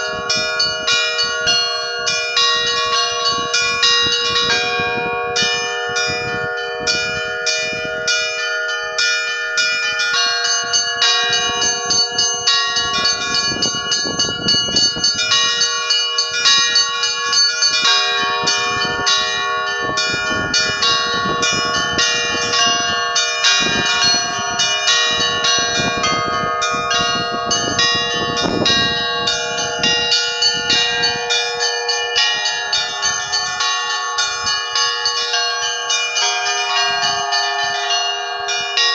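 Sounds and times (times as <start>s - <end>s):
church bells pealing: 0.0s - 38.9s
hum of larger bells: 0.0s - 38.9s.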